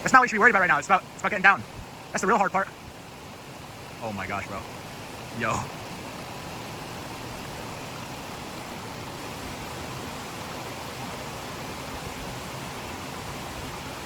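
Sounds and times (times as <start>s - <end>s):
brook water rushing: 0.0s - 14.0s.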